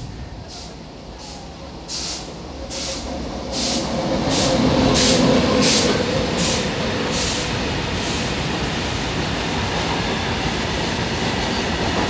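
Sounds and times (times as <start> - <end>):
freight train rail rumble: 0.0 - 12.0.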